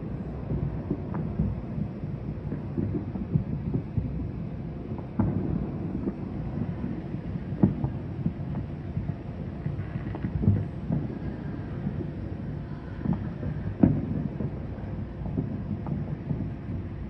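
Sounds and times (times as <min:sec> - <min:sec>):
distant fireworks booms and pops: 0:00.0 - 0:17.0.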